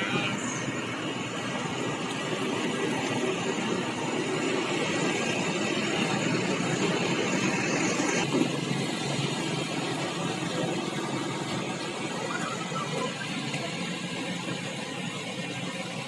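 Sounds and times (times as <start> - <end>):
excavator engine and tracks: 0.0 - 16.0.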